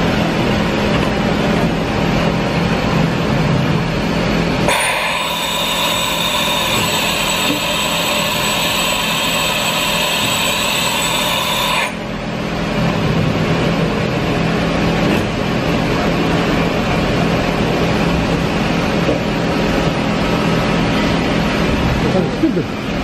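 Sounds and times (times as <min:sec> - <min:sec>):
high multi-tone machine whine: 0:00.0 - 0:23.0
low mechanical hum: 0:00.0 - 0:23.0.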